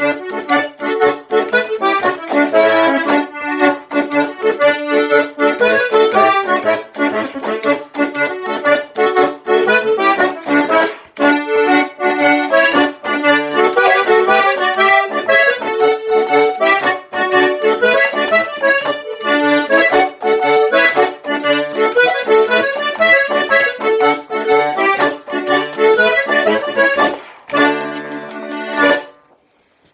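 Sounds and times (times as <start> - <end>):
instrumental folk dance tune: 0.0 - 29.9.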